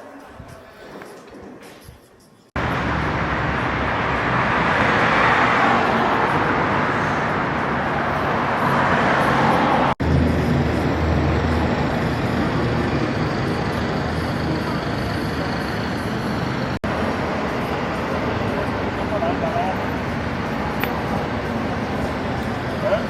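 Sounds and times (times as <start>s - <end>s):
cars driving past: 2.6s - 23.0s.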